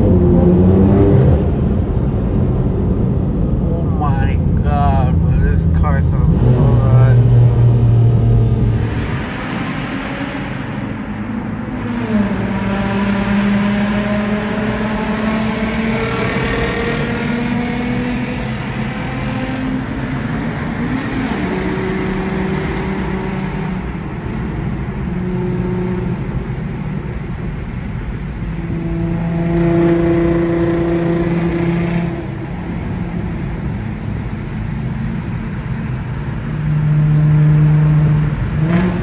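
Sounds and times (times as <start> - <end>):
car engine accelerating in tunnel: 0.0 - 39.0.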